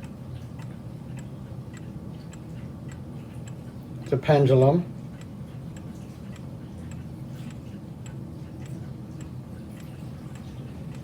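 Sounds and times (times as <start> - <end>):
clock ticking: 0.0 - 11.0
low steady hum: 0.0 - 11.0.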